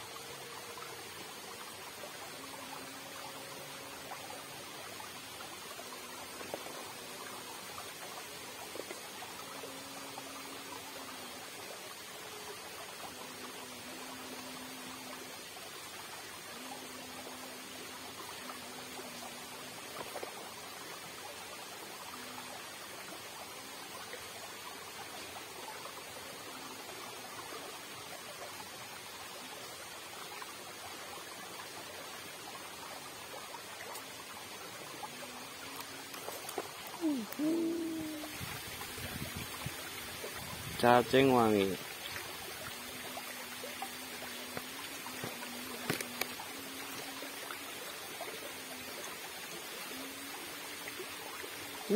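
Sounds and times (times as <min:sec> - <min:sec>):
water rushing along a channel: 0:00.0 - 0:51.9.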